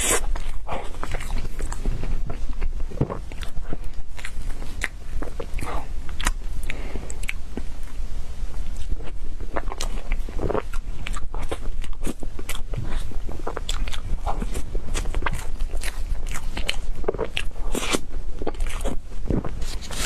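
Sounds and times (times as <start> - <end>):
person chewing and smacking: 0.0 - 8.0, 8.6 - 20.0
steady low hum: 0.0 - 20.0.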